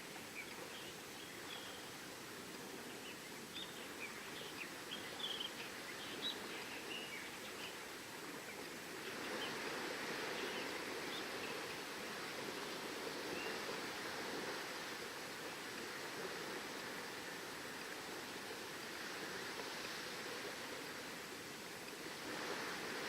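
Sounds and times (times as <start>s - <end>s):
surf washing: 0.0s - 23.0s.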